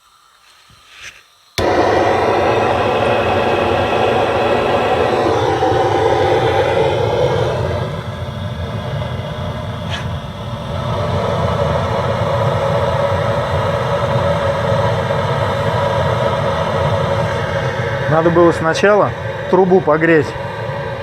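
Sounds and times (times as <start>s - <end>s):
gas burner hissing: 0.0s - 21.0s.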